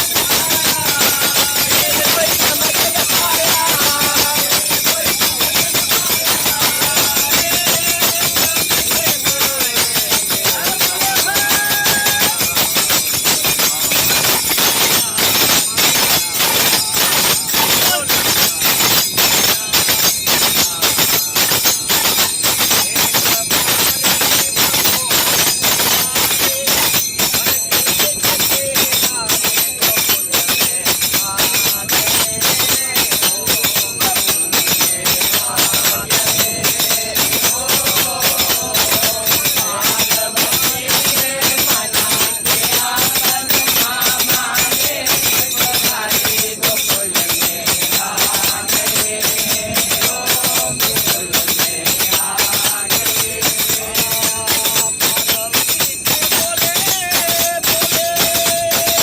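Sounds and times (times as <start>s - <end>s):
jingling hand percussion: 0.0s - 59.0s
people singing together: 0.0s - 59.0s.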